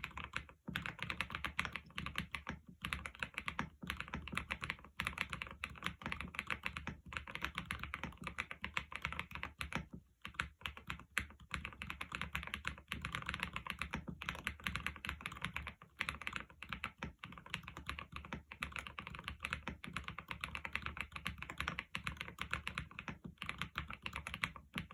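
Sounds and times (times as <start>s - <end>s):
fast mechanical keyboard typing: 0.0s - 24.9s.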